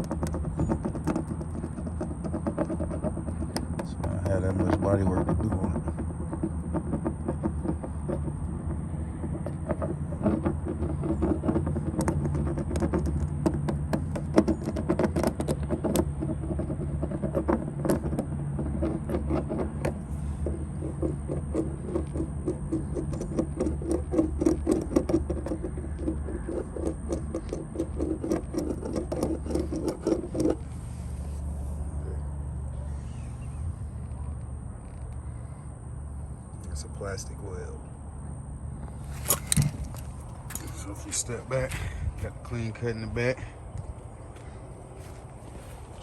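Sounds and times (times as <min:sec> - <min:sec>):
tool scraping plastic panel: 0:00.0 - 0:32.0, 0:38.9 - 0:46.0
steady low hum: 0:00.0 - 0:46.0.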